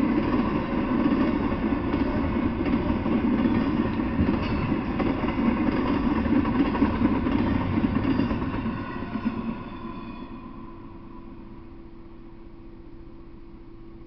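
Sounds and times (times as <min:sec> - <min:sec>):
freight train wheels rolling: 0:00.0 - 0:11.6.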